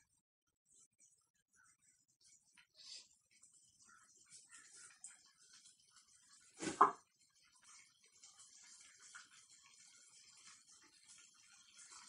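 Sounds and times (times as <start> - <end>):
gravy bubbling in a pot: 0.0 - 12.0.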